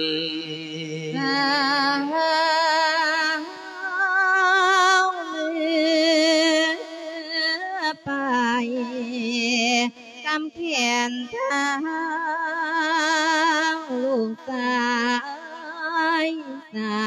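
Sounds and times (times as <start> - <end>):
monk chanting into a microphone: 0.0 - 17.0.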